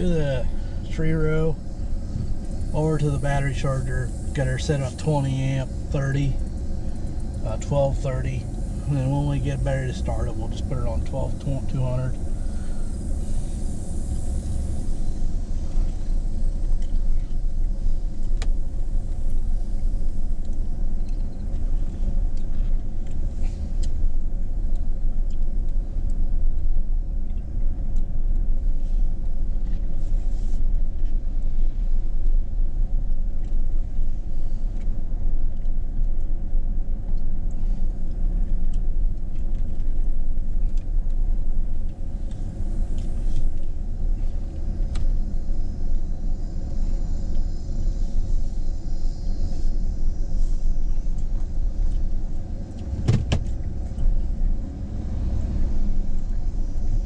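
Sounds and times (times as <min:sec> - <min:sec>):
low mechanical rumble: 0:00.0 - 0:57.0.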